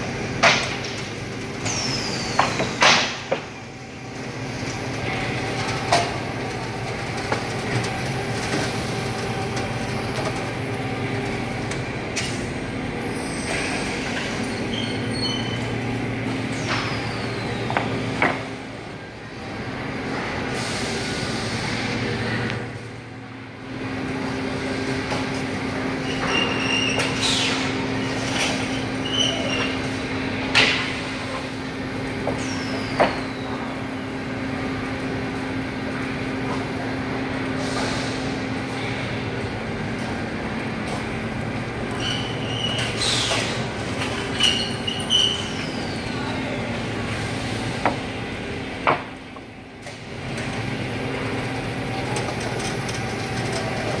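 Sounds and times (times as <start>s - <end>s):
factory machinery humming: 0.0s - 54.0s.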